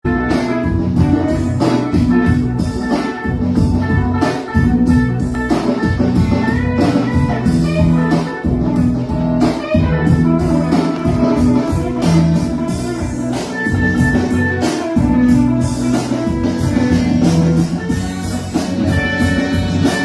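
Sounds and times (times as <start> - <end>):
drum kit: 0.0 - 20.0
guitar playing: 0.0 - 20.0.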